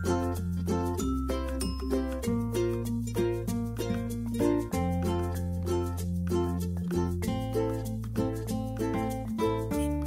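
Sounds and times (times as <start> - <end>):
light tune of picked notes: 0.0 - 10.0.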